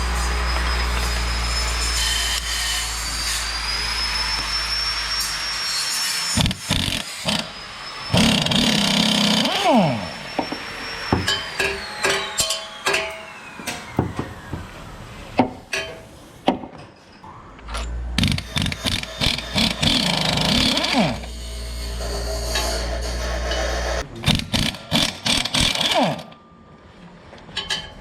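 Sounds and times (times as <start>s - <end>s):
power tool spinning: 0.0s - 15.6s, 18.2s - 26.4s.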